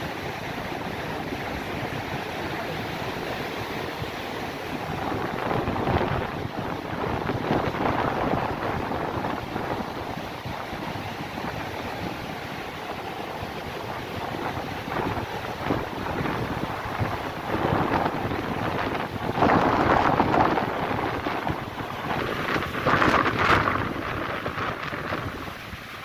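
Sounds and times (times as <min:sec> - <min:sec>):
sea surf breaking: 0:00.0 - 0:26.0
wind on microphone: 0:00.0 - 0:26.0.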